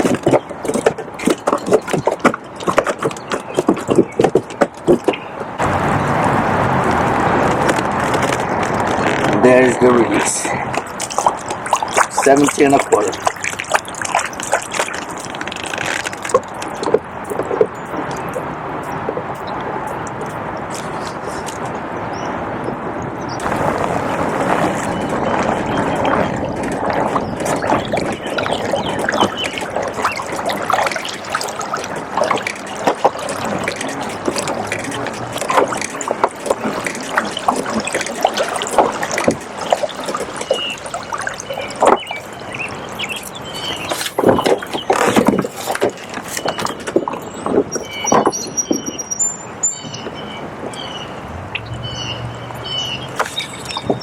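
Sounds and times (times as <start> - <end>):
floodwater splashing and gurgling: 0.0 - 54.0.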